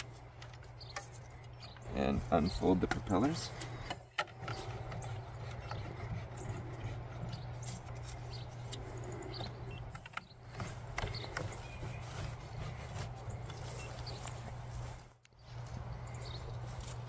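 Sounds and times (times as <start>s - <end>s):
propeller blades clicking and knocking: 0.0s - 17.0s.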